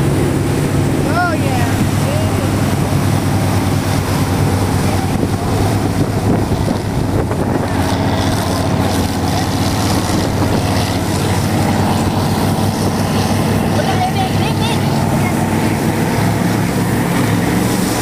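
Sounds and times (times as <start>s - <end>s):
motorboat engine running: 0.0s - 18.0s
wake churning: 0.0s - 18.0s
wind buffeting microphone: 0.0s - 18.0s.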